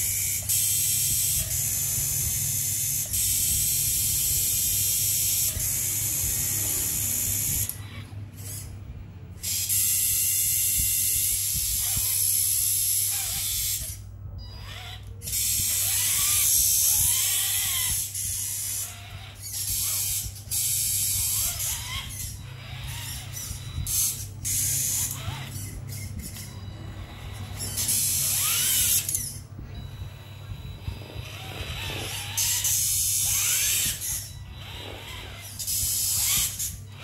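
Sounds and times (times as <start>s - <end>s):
servo grinding buzz: 0.0s - 37.0s
servo whining: 0.0s - 37.0s.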